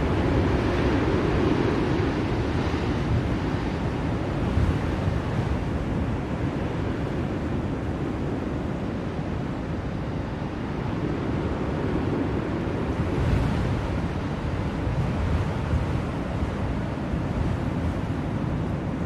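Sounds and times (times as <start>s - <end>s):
blizzard wind rushing: 0.0s - 19.0s.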